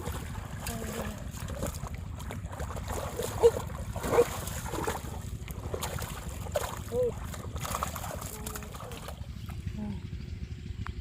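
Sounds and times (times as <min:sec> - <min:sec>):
hands sloshing muddy water: 0:00.0 - 0:09.8.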